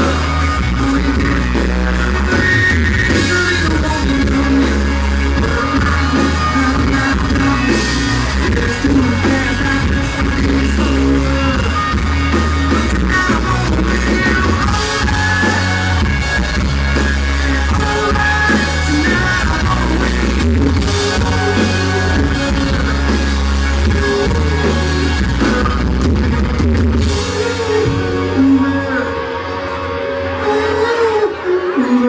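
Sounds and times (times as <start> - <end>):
country rock band playing live: 0.0 - 32.0.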